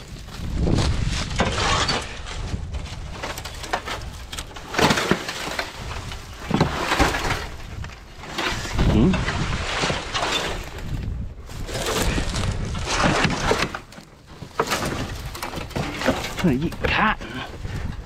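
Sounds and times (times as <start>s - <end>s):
dry grass crackling and snapping: 0.0s - 18.0s
wooden board scraping: 0.0s - 18.0s.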